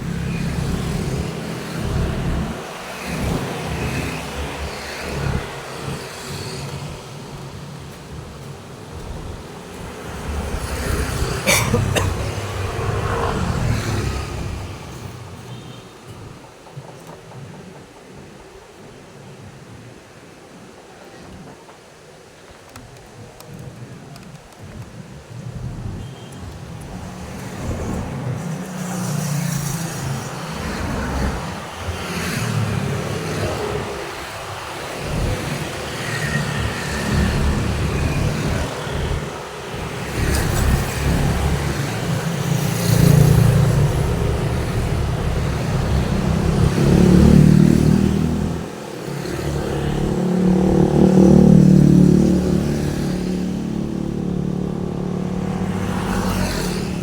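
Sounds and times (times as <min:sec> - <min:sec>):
vehicles passing: 0:00.0 - 0:18.4, 0:25.1 - 0:57.0.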